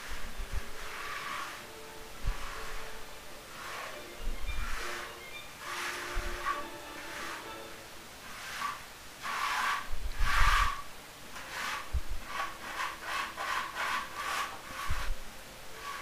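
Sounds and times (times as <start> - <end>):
hand float scraping wet cement: 0.0 - 7.5, 8.2 - 15.1, 15.8 - 16.0.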